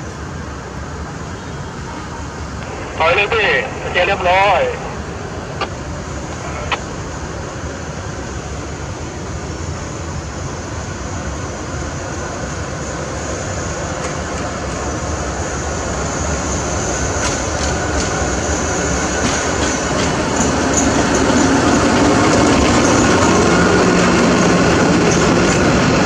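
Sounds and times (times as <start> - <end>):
diesel locomotive passing: 0.0 - 26.0.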